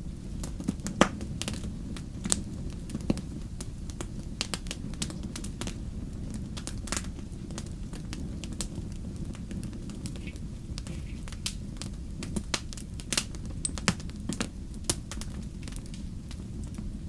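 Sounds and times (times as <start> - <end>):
wood fire burning and crackling: 0.0 - 17.0.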